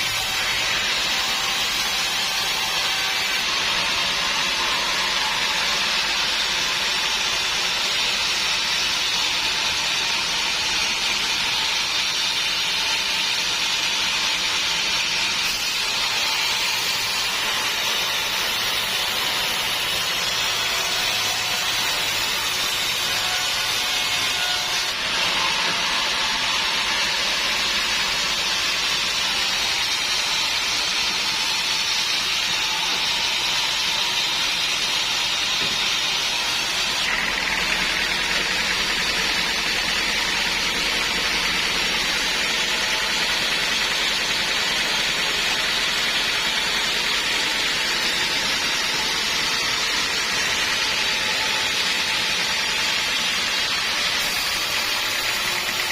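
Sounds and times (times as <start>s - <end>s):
saw cutting through wood: 0.0s - 55.9s.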